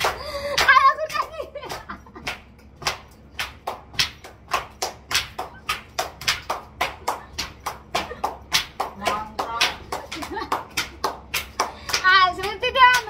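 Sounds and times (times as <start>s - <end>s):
sharp claps: 0.0s - 13.0s.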